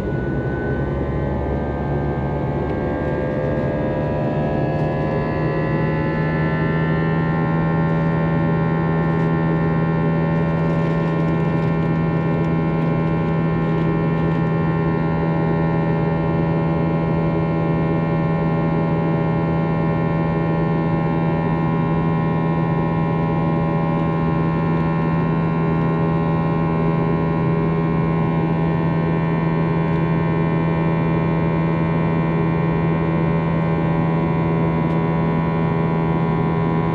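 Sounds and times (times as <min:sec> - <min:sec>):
airplane cabin drone: 0:00.0 - 0:36.9.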